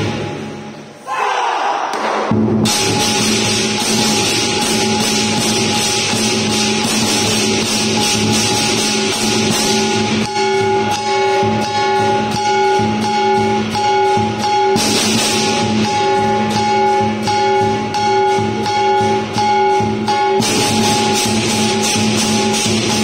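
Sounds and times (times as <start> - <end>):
gongs ringing: 2.6 - 23.0
hand cymbals clashing: 2.6 - 23.0.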